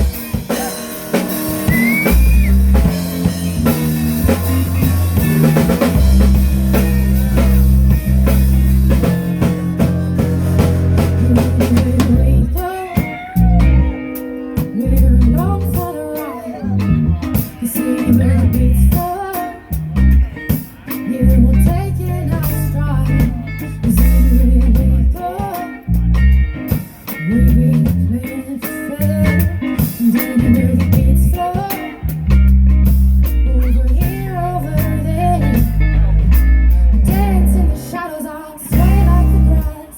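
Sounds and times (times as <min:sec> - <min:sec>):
person singing: 0:00.0 - 0:32.2, 0:33.2 - 0:39.9
band playing a song: 0:00.0 - 0:39.9
bass line: 0:00.0 - 0:39.9
drums: 0:00.0 - 0:39.9.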